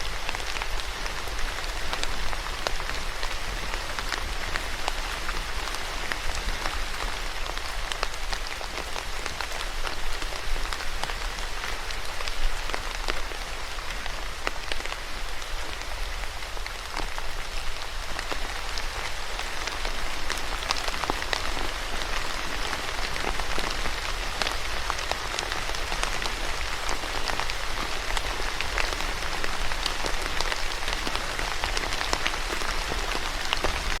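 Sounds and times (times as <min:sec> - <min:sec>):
rain on a hard surface: 0:00.0 - 0:34.0.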